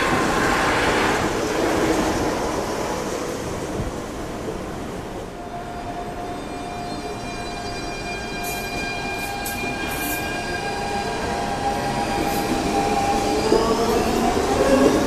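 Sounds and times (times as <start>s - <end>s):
electric train whine: 0.0s - 15.0s.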